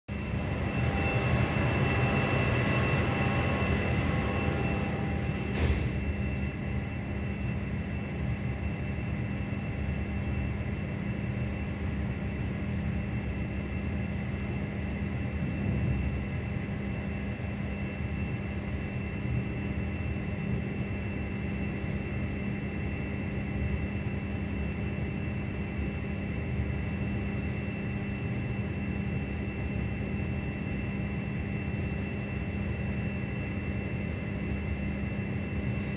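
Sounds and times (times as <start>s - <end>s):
faint steady hum of tones: 0.1s - 35.9s.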